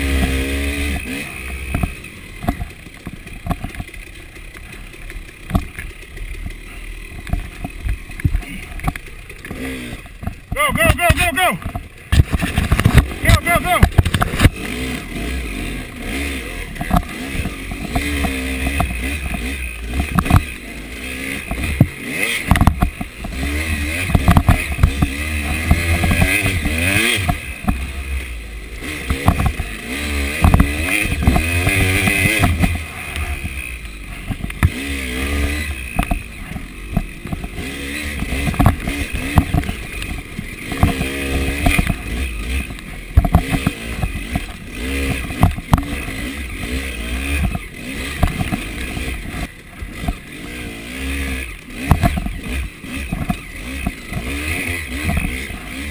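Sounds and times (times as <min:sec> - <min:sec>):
dirt bike engine revving: 0:00.0 - 0:55.9
bike knocking and clattering: 0:00.2 - 0:14.9, 0:16.2 - 0:28.0, 0:29.0 - 0:50.6, 0:51.7 - 0:55.9.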